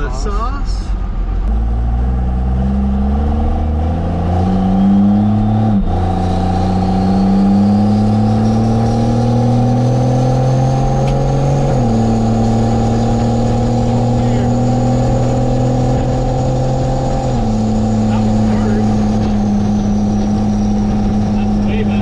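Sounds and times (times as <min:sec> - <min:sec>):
diesel engine accelerating and shifting: 0:00.0 - 0:22.0.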